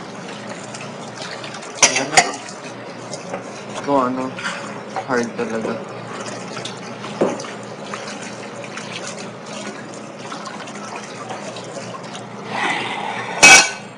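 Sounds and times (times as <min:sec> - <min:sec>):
water running and trickling: 0:00.0 - 0:12.5.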